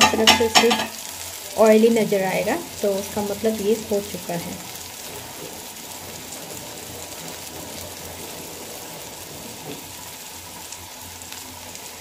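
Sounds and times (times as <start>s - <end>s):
seeds sizzling in oil: 0.0s - 12.0s.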